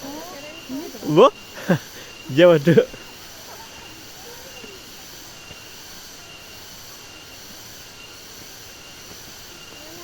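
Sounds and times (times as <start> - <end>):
cicadas droning: 0.0 - 10.0.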